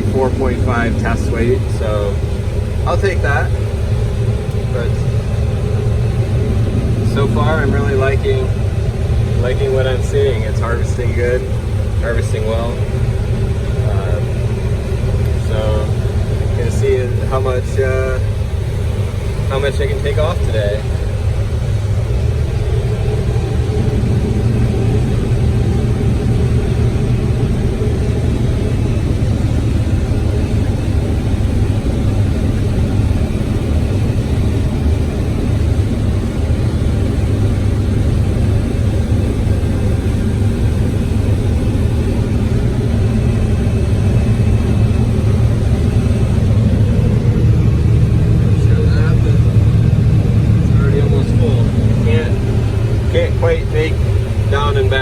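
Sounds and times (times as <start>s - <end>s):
combine harvester engine rumble: 0.0s - 55.0s.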